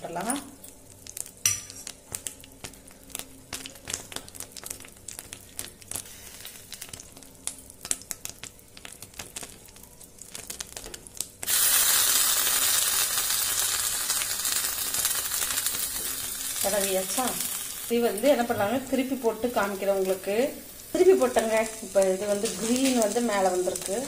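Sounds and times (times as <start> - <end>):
bread sizzling in butter: 0.8 - 24.0.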